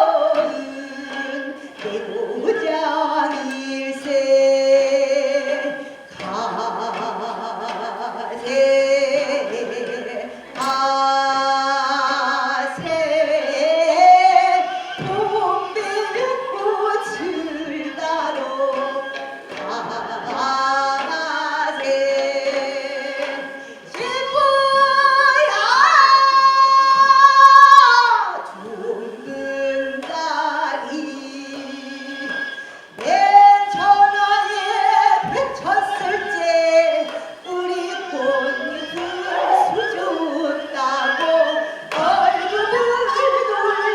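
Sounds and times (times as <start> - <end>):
woman singing folk song: 0.0 - 43.9.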